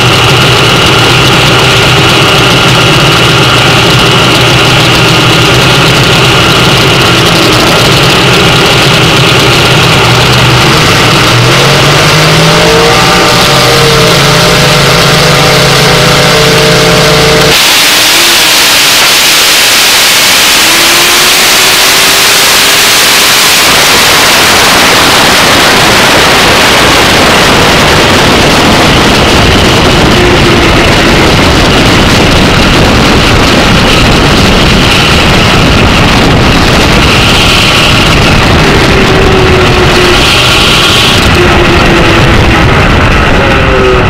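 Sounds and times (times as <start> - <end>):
dragster engine at full throttle: 0.0 - 44.0
rough wind and rumble: 0.0 - 44.0.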